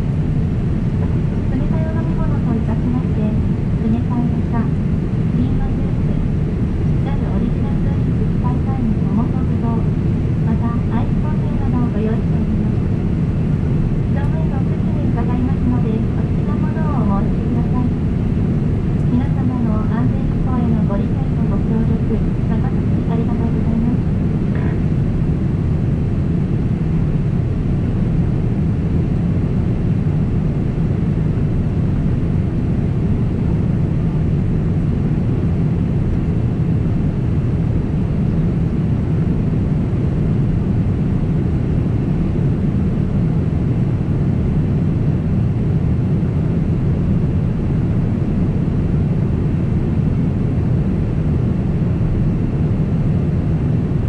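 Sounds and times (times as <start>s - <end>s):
jet engine cabin roar: 0.0s - 54.0s.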